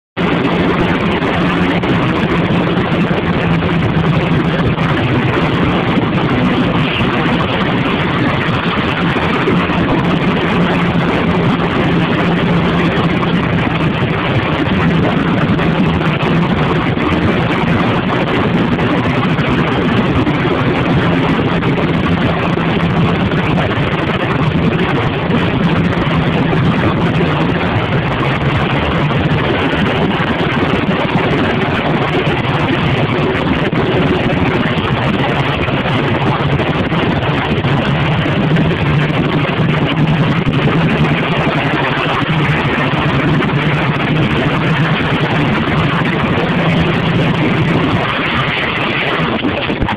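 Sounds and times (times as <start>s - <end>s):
wind and road noise: 0.0s - 49.9s
motorcycle engine running: 0.2s - 49.9s.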